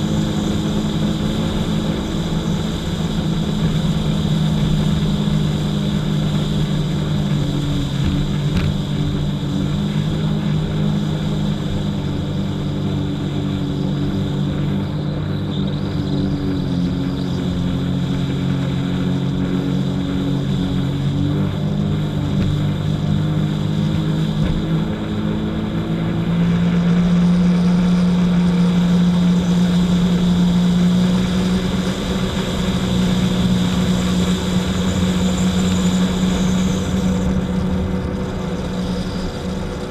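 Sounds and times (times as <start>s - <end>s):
jet ski engine droning: 0.0s - 39.9s.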